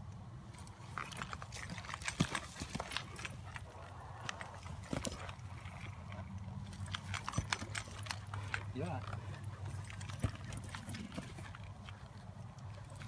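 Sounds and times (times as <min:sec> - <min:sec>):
hoofbeats on soft dirt: 0:00.6 - 0:13.0.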